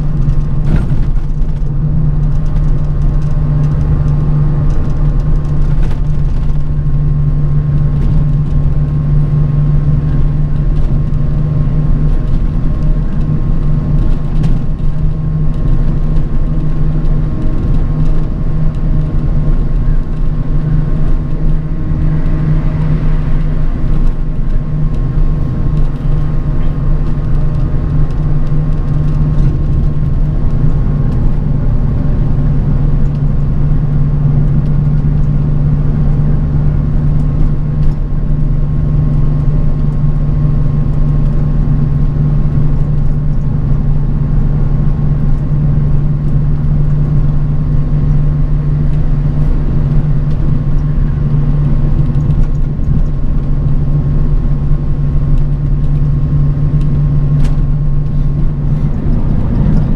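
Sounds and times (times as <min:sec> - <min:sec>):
bus engine and road drone: 0:00.0 - 0:59.9.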